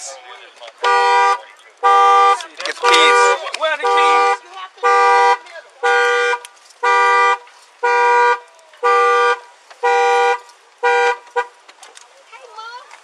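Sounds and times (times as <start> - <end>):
car horn blasts from alarm: 0.8 - 11.6.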